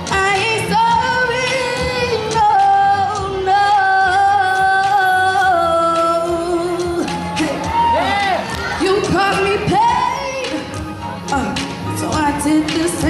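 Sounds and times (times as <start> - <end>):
woman singing into microphone: 0.0 - 7.8, 8.6 - 13.0.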